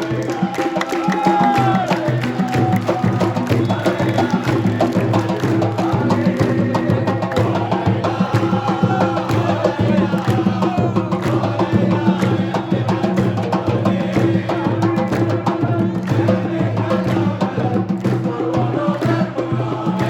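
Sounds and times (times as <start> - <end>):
crowd chanting: 0.0 - 20.0
drums beating: 0.0 - 20.0.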